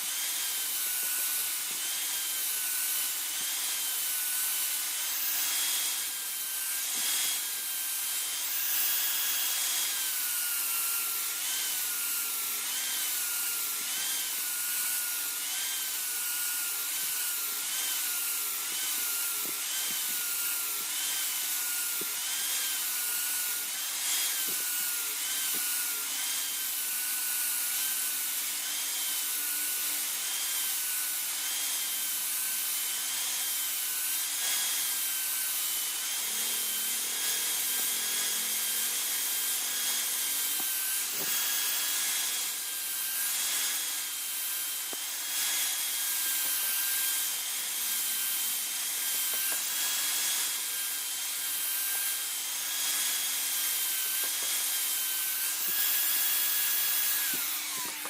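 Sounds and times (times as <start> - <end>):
grinder motor whine: 0.0 - 58.0
power grinder abrasive hiss: 0.0 - 58.0.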